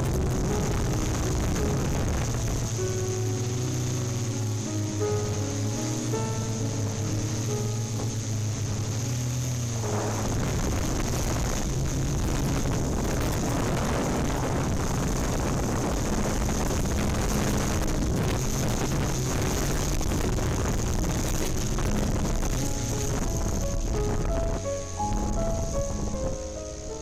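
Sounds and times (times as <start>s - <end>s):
drone propellers whirring: 0.0s - 27.0s.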